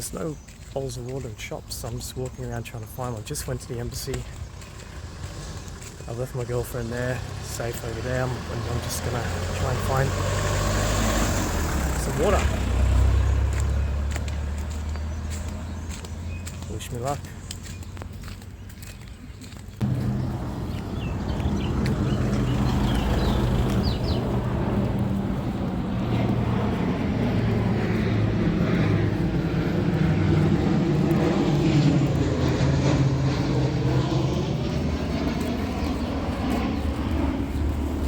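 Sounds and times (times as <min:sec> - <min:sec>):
aircraft engines passing overhead: 0:00.0 - 0:38.0.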